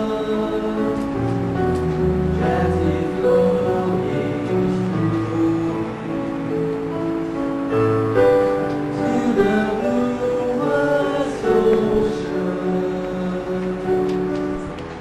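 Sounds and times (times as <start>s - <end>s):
church choir singing: 0.0s - 7.4s, 8.7s - 14.7s
instrumental accompaniment: 0.0s - 15.0s.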